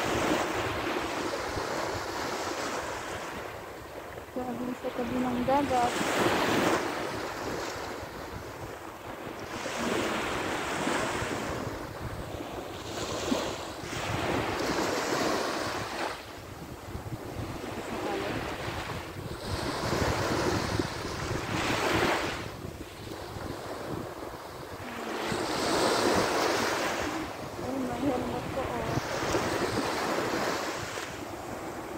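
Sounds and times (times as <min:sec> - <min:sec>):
waves breaking on shore: 0:00.0 - 0:31.9
wind on microphone: 0:00.0 - 0:31.9.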